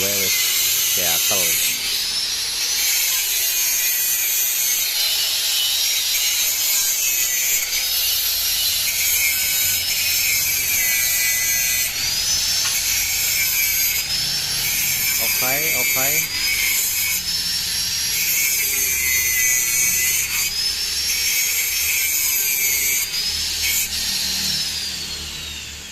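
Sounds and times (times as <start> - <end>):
angle grinder grinding steel: 0.0 - 25.9.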